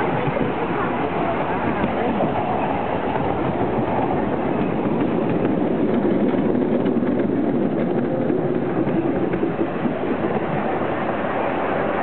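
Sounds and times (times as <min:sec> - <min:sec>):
small train rumbling on rails: 0:00.0 - 0:12.0.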